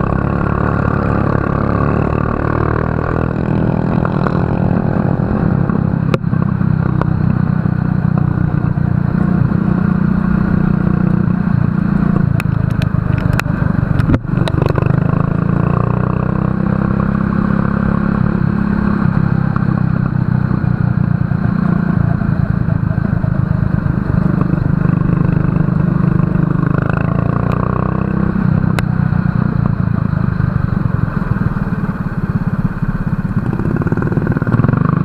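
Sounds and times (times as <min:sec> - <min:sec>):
racing kart engine running hard: 0:00.0 - 0:35.0.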